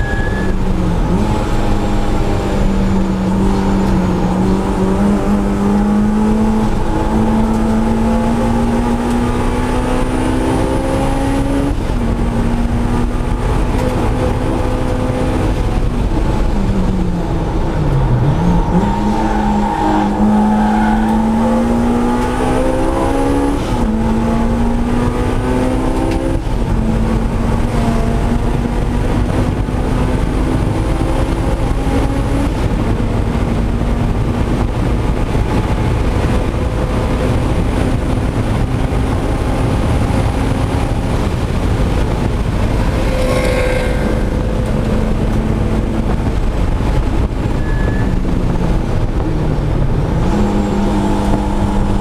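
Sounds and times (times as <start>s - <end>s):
car engine accelerating hard: 0.0s - 52.0s
high supercharger whine: 0.0s - 52.0s.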